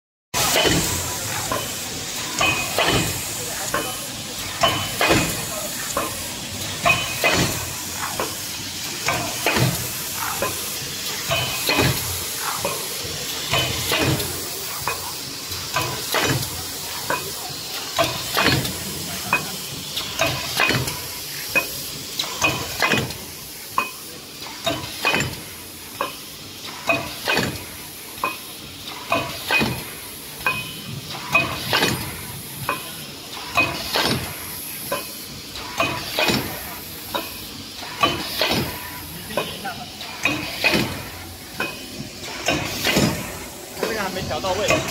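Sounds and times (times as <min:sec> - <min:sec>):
constant hiss: 0:00.4 - 0:44.9
machine press clacking: 0:00.4 - 0:44.9.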